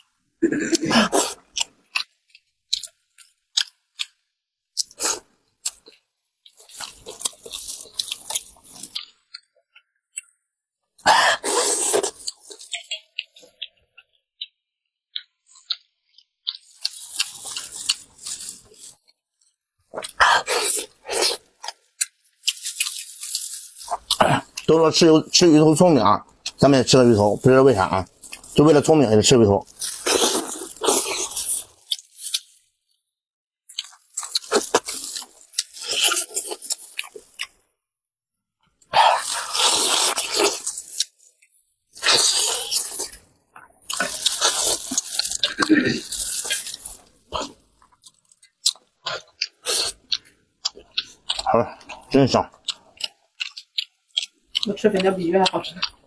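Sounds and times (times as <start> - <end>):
chewing: 1.0 - 10.4, 11.4 - 24.8, 29.6 - 32.7, 33.7 - 37.6, 38.8 - 56.0.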